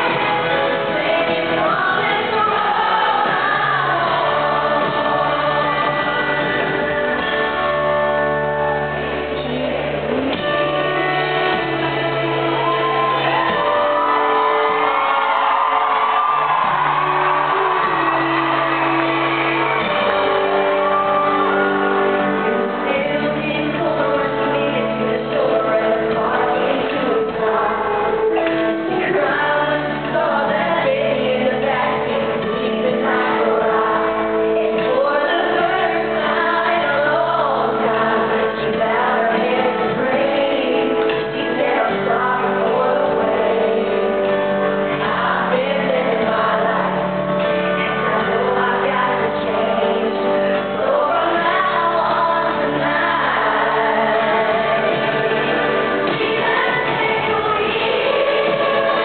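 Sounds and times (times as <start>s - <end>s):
backing voices: 0.0s - 59.0s
band playing: 0.0s - 59.0s
woman singing country ballad: 0.0s - 59.0s.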